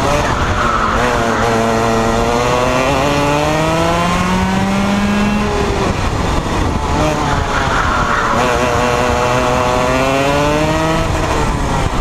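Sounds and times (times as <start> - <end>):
kart engine revving: 0.0 - 12.0.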